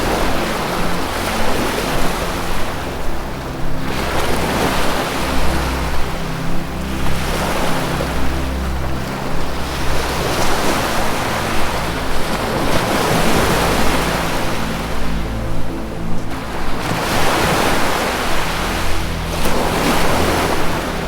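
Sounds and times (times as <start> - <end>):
low held music notes: 0.0 - 21.0
ocean waves washing: 0.0 - 21.0.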